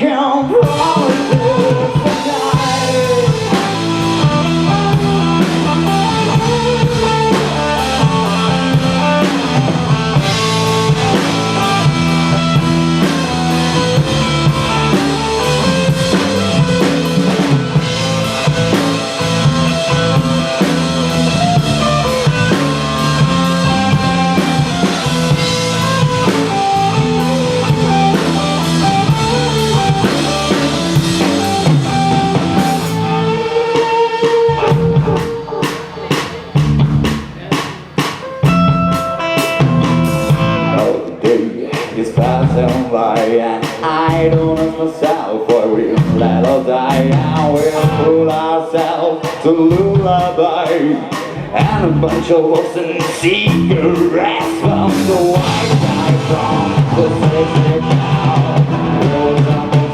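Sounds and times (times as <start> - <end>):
bass guitar: 0.0 - 59.9
electric guitar: 0.0 - 59.9
drum kit beat: 0.5 - 59.9.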